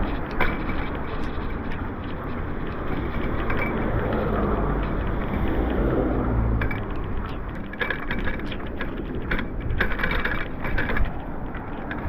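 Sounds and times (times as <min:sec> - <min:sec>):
bicycle rolling on rough surface: 0:00.0 - 0:12.0
bike rattling clicks: 0:00.0 - 0:12.0.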